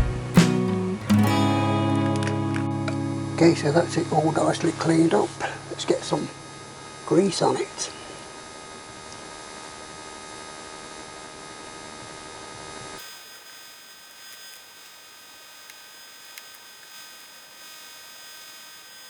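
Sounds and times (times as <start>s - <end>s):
electrical hum with hiss: 0.0s - 19.0s.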